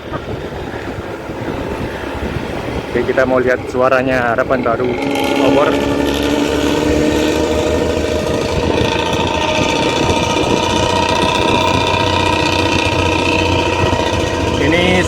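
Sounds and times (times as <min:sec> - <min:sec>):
bus diesel engine growling: 0:00.0 - 0:15.0.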